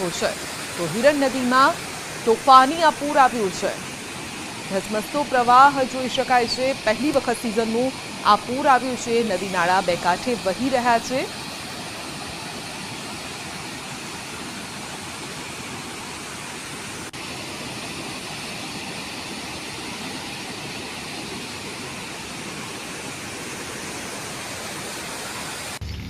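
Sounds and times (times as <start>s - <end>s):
river rushing over a weir: 0.0s - 25.8s.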